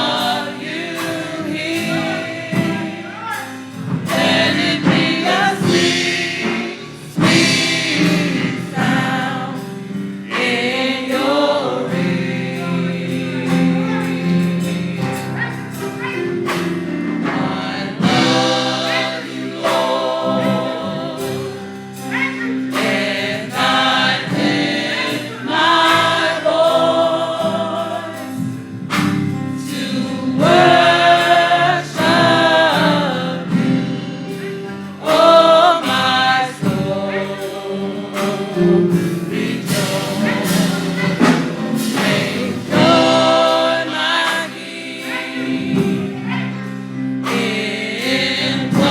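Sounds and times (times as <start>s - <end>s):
gospel choir singing: 0.0s - 48.9s
instrumental accompaniment: 0.0s - 48.9s.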